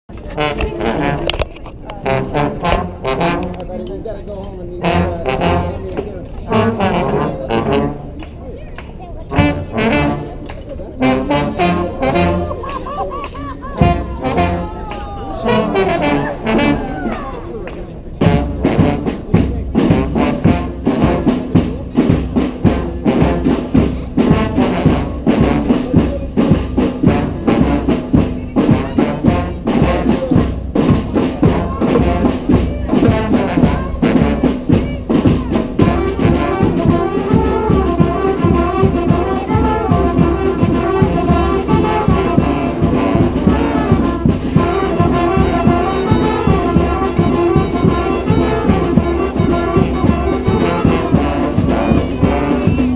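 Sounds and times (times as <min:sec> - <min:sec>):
brass band playing: 0:00.1 - 0:03.9, 0:04.8 - 0:52.9
drums beating steady rhythm: 0:00.1 - 0:52.9.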